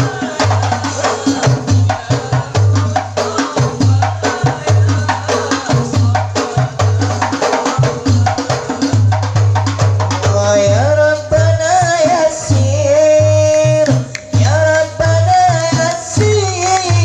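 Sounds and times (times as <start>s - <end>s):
deep booming bass drum: 0.0s - 17.0s.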